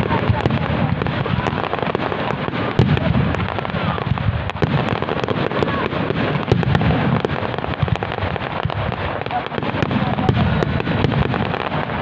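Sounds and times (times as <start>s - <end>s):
fireworks crackling: 0.0s - 12.0s
fireworks low booms: 0.0s - 12.0s
fireworks sharp pops: 0.0s - 12.0s.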